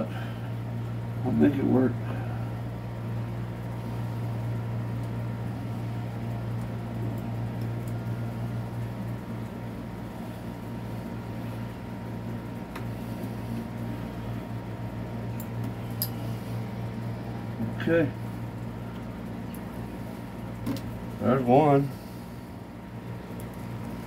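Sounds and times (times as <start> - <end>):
fan humming: 0.0 - 24.0.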